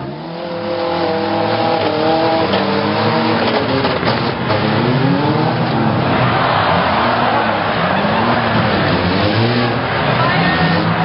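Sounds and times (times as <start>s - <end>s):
truck engines revving: 0.0s - 11.0s
trucks ramming knocks: 0.8s - 11.0s.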